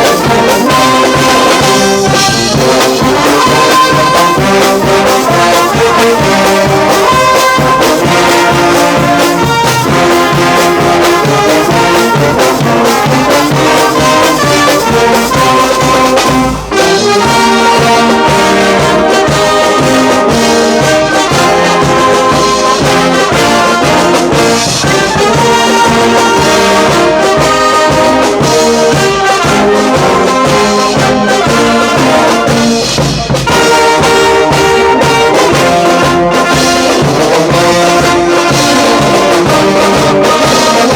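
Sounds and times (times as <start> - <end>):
brass band playing: 0.0 - 40.9.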